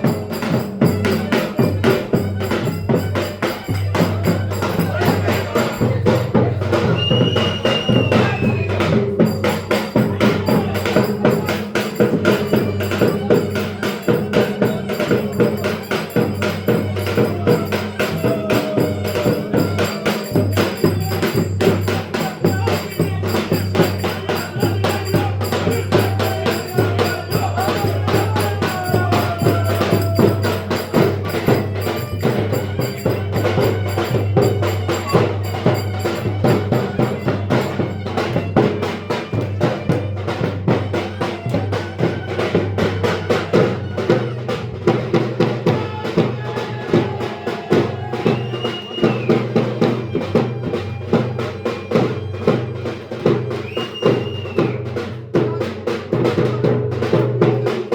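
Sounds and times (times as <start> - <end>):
folk dance music: 0.0 - 54.6.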